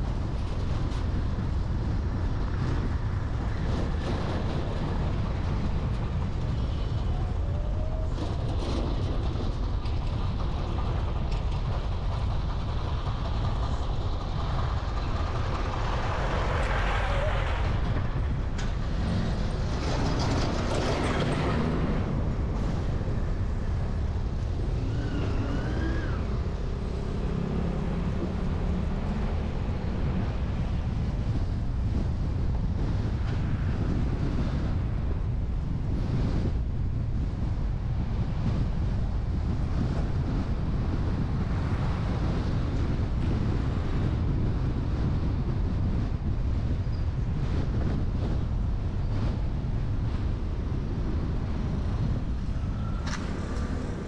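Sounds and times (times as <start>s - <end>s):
traffic rumble: 0.0s - 54.0s
vehicles passing: 0.0s - 54.0s.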